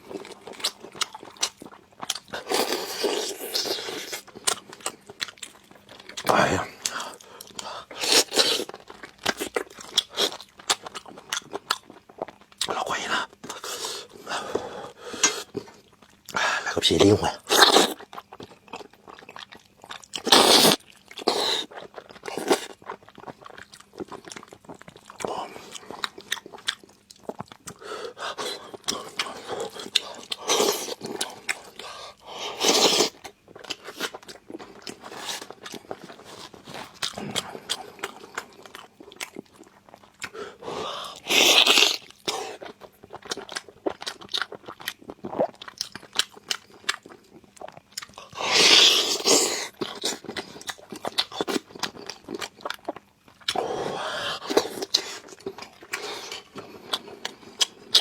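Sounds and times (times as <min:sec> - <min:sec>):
chewing and biting meat: 0:00.0 - 0:58.0.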